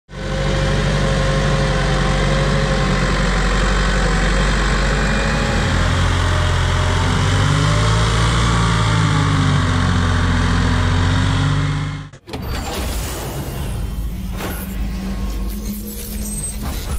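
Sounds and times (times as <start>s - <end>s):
tractor diesel engine under load: 0.1s - 16.9s.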